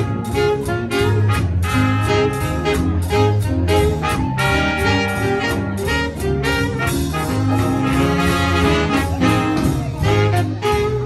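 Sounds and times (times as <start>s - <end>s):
swing big band playing: 0.0s - 11.0s.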